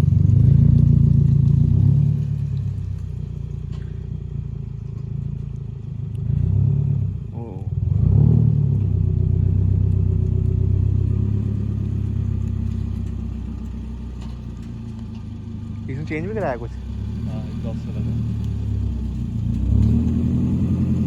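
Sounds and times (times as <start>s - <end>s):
car engine droning and revving: 0.0s - 21.0s.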